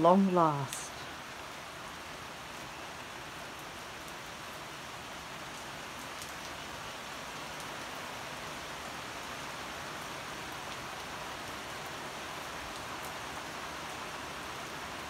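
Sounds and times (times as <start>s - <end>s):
heavy rain on foliage and pavement: 0.0s - 15.0s.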